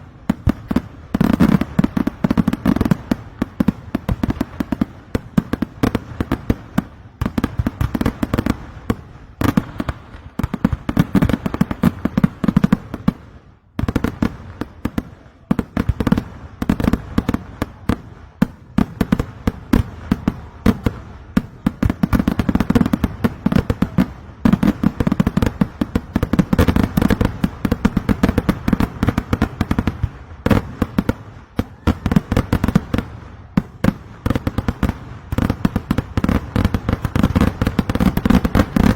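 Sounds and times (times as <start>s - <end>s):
rapid firecracker bangs: 0.0s - 38.9s.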